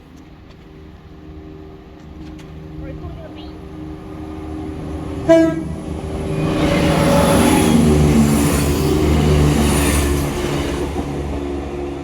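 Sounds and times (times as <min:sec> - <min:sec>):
train engine hum: 0:00.0 - 0:12.0
wheels rushing on rails: 0:00.0 - 0:12.0.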